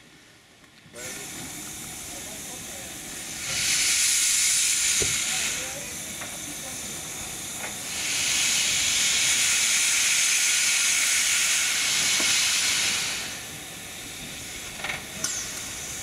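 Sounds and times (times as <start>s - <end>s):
locomotive steam hissing: 1.0s - 16.0s.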